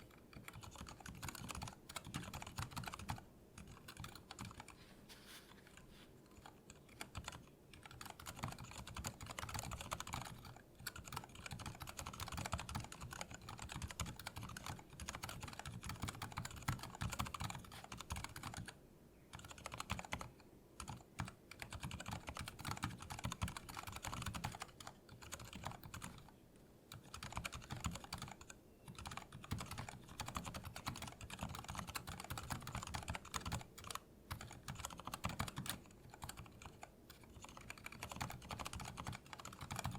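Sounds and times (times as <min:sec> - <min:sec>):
soft muted keyboard typing: 0:00.0 - 0:39.9.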